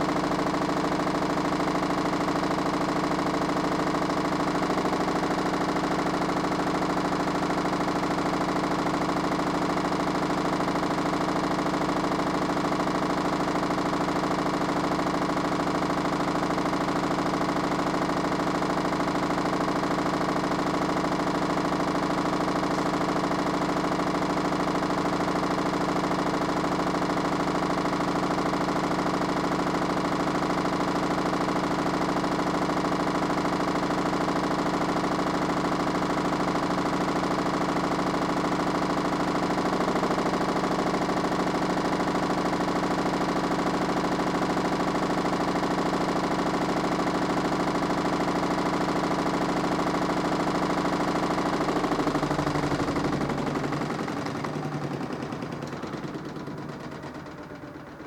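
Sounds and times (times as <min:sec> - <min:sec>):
washing machine motor hum: 0:00.0 - 0:58.0.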